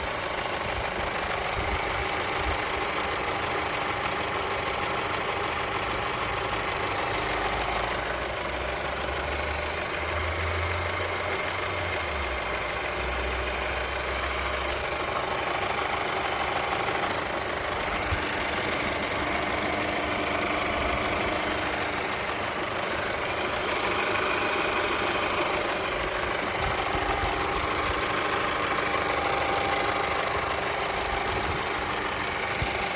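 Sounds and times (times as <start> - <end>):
car engine running: 0.0 - 32.9
engine ticking: 0.0 - 32.9.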